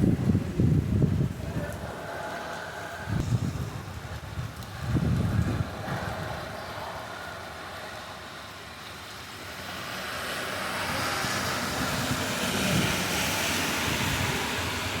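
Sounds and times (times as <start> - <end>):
heavy rain and wind: 0.0 - 15.0.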